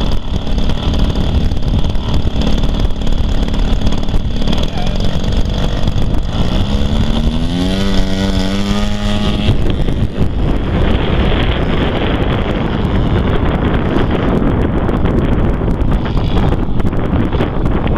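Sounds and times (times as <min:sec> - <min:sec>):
model plane engine revving: 0:00.0 - 0:17.9
wind noise on microphone: 0:00.0 - 0:17.9.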